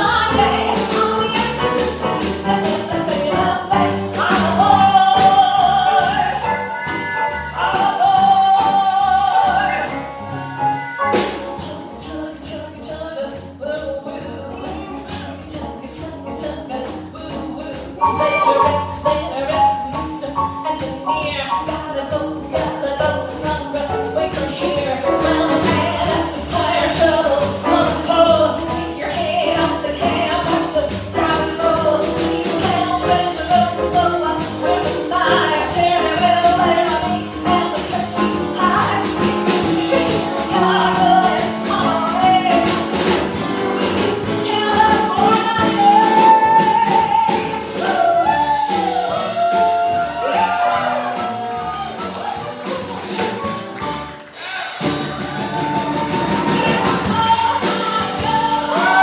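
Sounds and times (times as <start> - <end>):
person singing live: 0.0 - 43.4, 44.2 - 53.2, 55.2 - 59.0.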